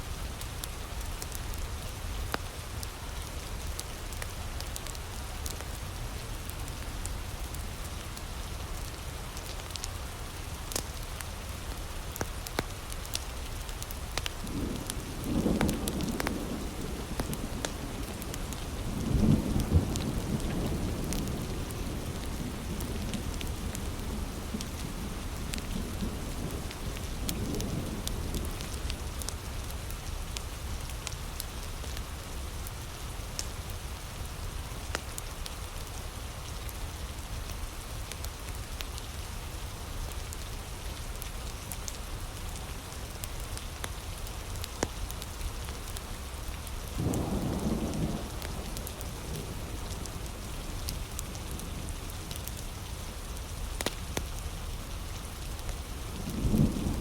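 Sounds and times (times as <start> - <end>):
heavy rain: 0.0 - 57.0
campfire crackling: 0.4 - 57.0.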